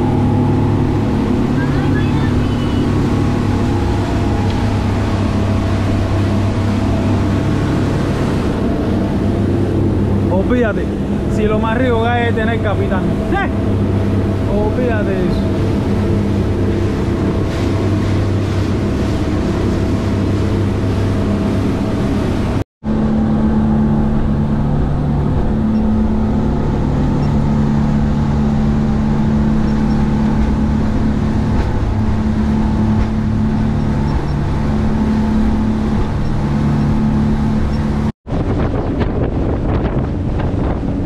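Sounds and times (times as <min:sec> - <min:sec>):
boat engines droning: 0:00.0 - 0:41.0.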